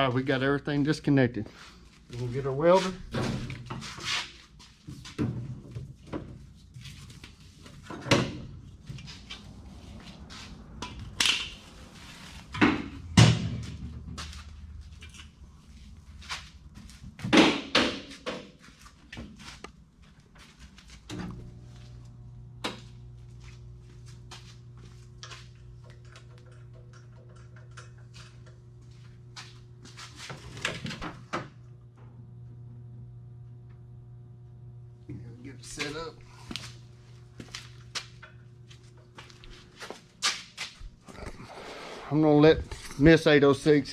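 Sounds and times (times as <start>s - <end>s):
steady machine hum: 5.4s - 43.9s.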